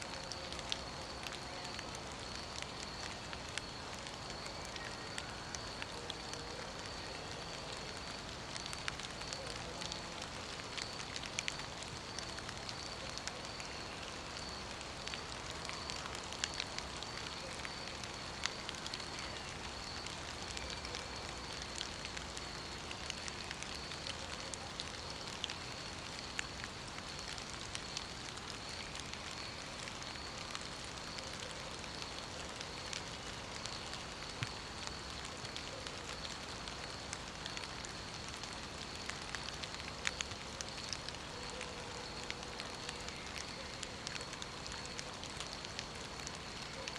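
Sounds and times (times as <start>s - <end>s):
drips and crackles: 0.0s - 46.9s
rain falling: 0.0s - 46.9s.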